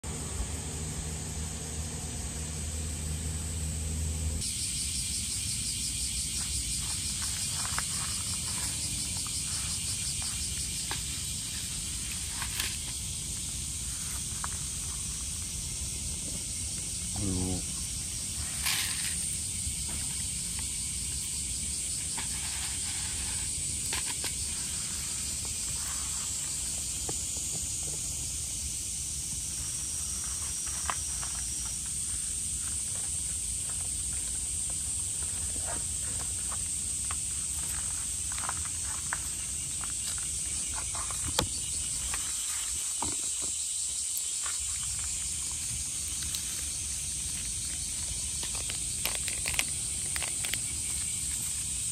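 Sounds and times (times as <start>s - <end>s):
insects chirring: 0.1s - 51.9s.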